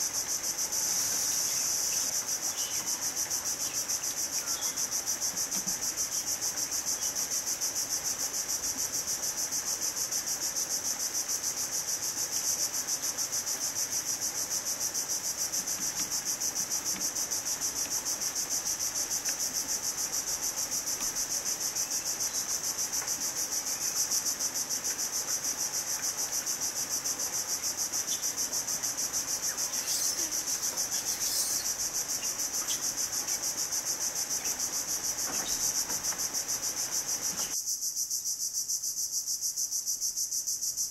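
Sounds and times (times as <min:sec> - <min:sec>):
insects chorus pulsing: 0:00.0 - 0:40.9.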